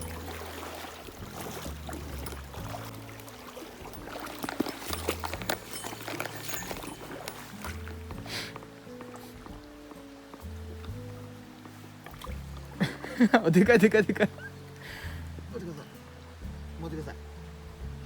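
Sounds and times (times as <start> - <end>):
quiet background music: 0.0 - 18.0
stream water splashing: 0.0 - 18.0.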